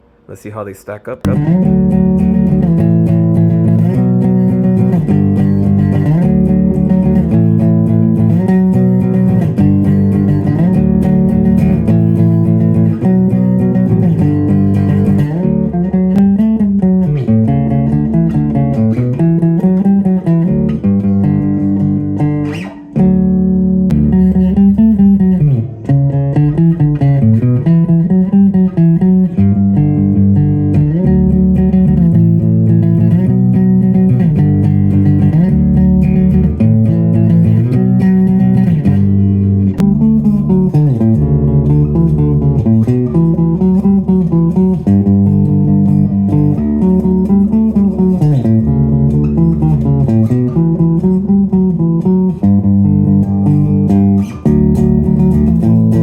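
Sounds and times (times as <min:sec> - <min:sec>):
electric bass plucked notes: 0:01.2 - 0:56.0.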